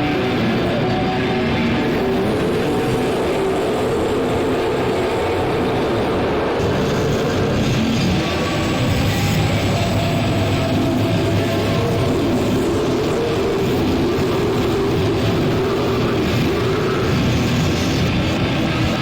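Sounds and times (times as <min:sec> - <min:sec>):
distorted industrial noise drone: 0:00.0 - 0:19.0.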